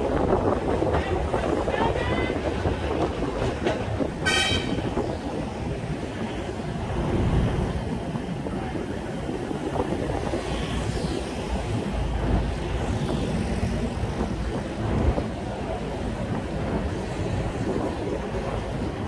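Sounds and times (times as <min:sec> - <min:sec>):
road traffic: 0:00.0 - 0:19.0
tram rumbling: 0:00.0 - 0:19.0
wind buffeting microphone: 0:00.0 - 0:19.0.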